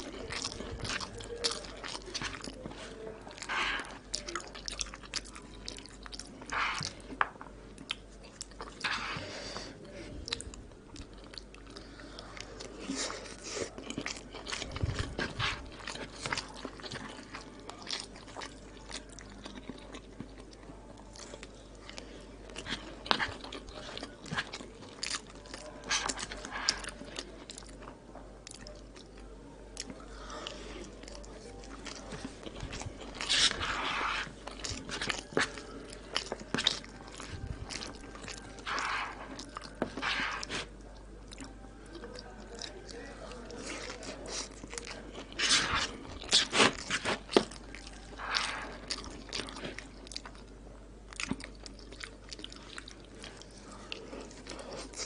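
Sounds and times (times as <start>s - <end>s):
person chewing wetly: 0.0s - 55.0s.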